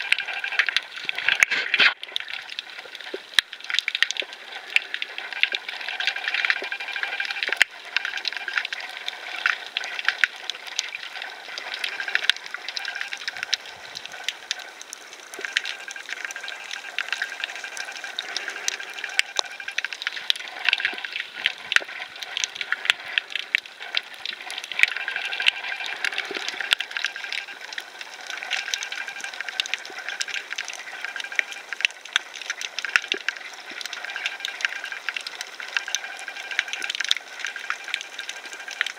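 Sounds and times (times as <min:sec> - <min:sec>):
underwater water noise: 0:00.0 - 0:38.9
sharp clicks and crackles: 0:00.1 - 0:38.9.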